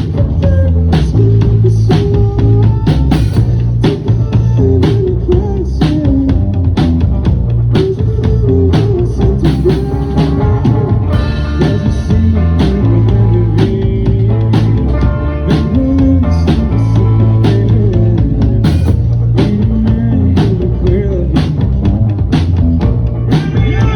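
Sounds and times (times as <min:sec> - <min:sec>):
bass guitar: 0:00.0 - 0:23.9
drum kit beat: 0:00.0 - 0:23.9
electric guitar: 0:00.0 - 0:23.9.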